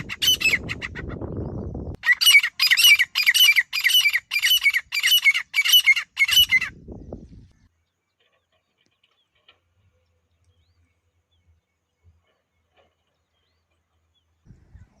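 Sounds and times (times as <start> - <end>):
distant small birds chirping: 0.0 - 15.0.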